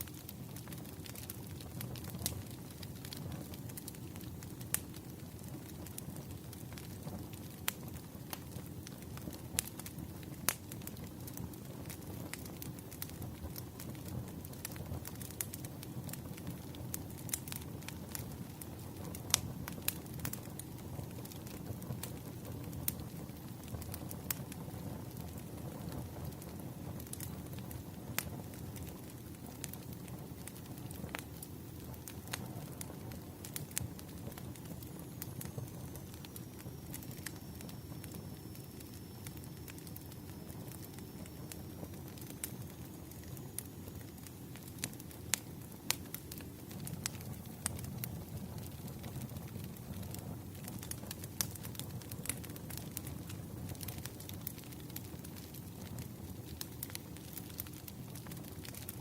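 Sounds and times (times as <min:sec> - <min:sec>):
fire crackling: 0:00.0 - 0:59.0.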